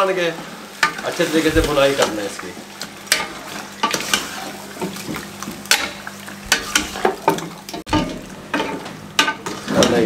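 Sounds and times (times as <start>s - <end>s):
meat frying in hot oil: 0.0s - 10.0s.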